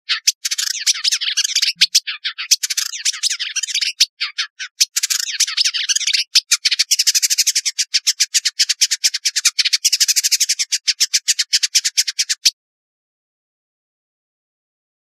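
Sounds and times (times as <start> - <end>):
bird singing warbled phrases: 0.0 - 12.6.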